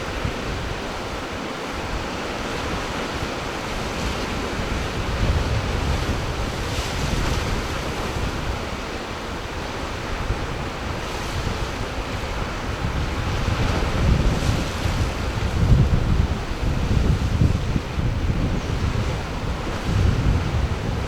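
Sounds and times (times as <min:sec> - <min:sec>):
sea surf: 0:00.0 - 0:21.0
wind buffeting microphone: 0:00.0 - 0:21.0.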